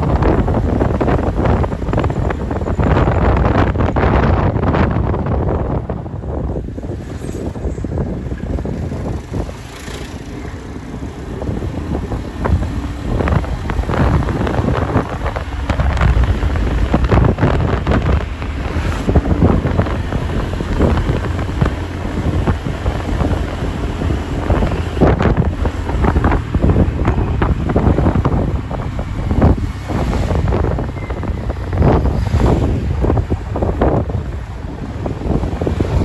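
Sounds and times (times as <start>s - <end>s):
road and engine rumble: 0.0s - 36.0s
wind buffeting microphone: 0.0s - 36.0s.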